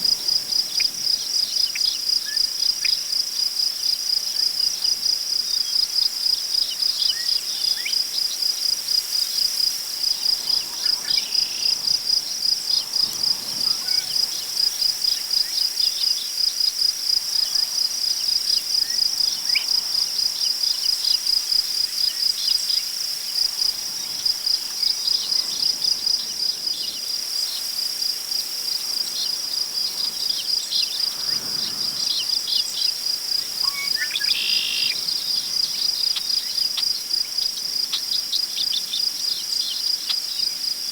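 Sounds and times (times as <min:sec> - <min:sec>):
crickets chirping: 0:00.0 - 0:40.9
wind rustling through grass: 0:06.8 - 0:40.9.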